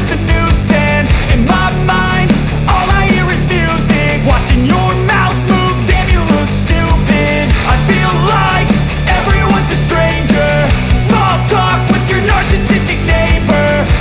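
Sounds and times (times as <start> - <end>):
rock music: 0.0 - 14.0.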